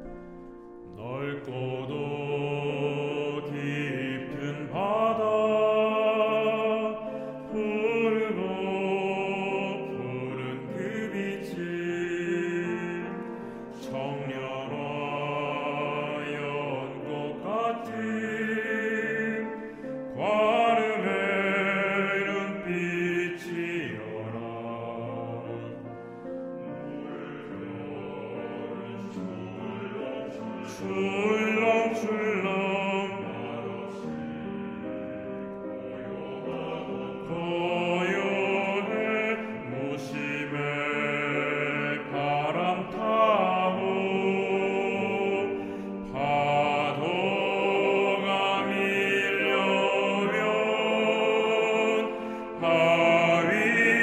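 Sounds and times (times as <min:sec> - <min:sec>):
male choir singing a hymn in harmony: 0:00.8 - 0:54.0.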